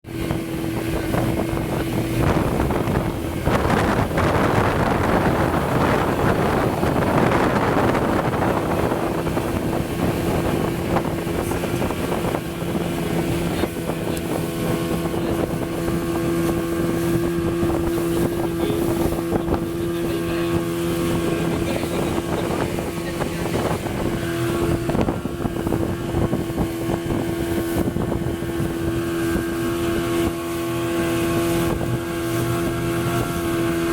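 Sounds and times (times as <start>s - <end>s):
motorboat engine humming: 0.0s - 33.9s
wind and water rushing: 0.0s - 33.9s.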